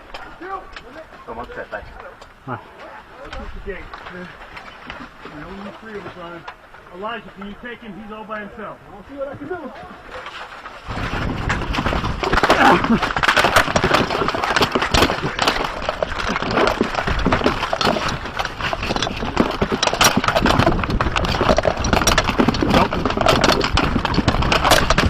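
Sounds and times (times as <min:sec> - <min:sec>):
rumbling rustle of movement: 0:00.0 - 0:25.0.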